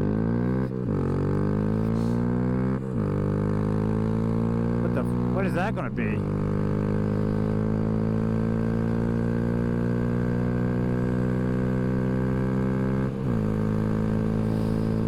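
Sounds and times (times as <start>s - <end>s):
motorcycle engine running hard: 0.0s - 15.0s.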